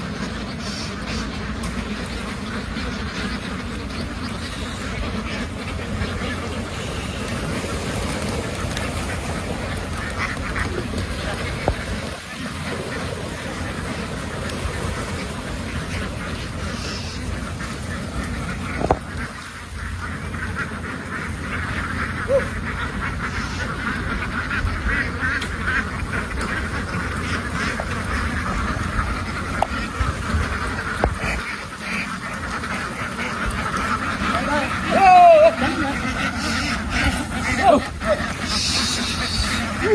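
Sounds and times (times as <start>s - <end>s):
flock of ducks quacking: 0.0s - 39.9s.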